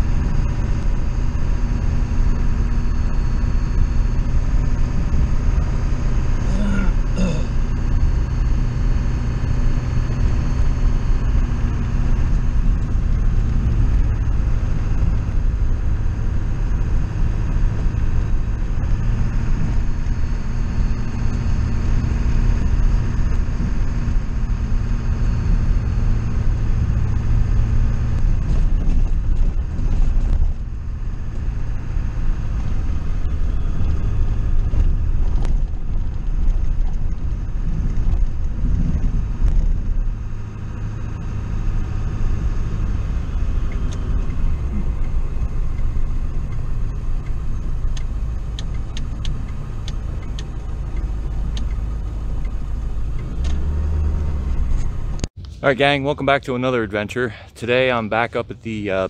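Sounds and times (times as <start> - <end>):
motor vehicle running: 0.0 - 59.0.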